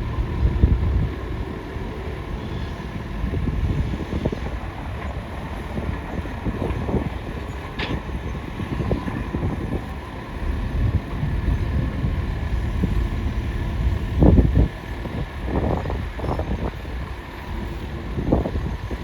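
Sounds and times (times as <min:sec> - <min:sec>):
excavator engine rumbling: 0:00.0 - 0:19.0
wind on microphone: 0:00.0 - 0:19.0.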